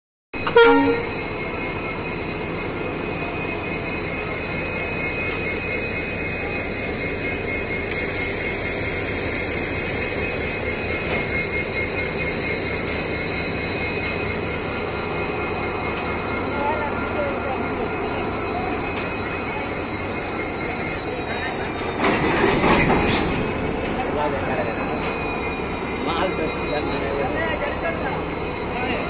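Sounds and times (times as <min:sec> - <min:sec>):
train rumbling: 0:00.4 - 0:29.0.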